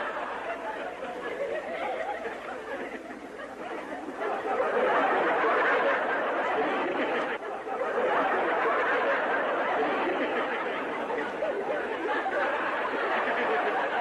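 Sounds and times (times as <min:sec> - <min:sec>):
crowd chattering: 0:00.0 - 0:14.0
people laughing: 0:00.0 - 0:14.0.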